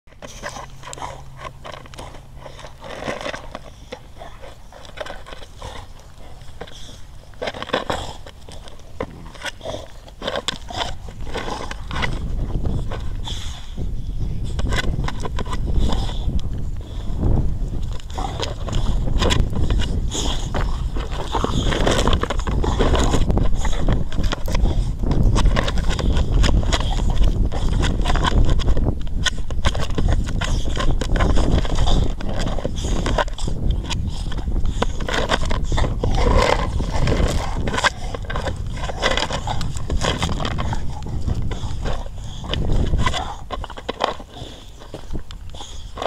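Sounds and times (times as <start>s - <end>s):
paws crunching gravel: 0.1s - 46.0s
teeth clacking on plastic disc: 0.1s - 46.0s
wind rumbling on microphone: 0.1s - 46.0s.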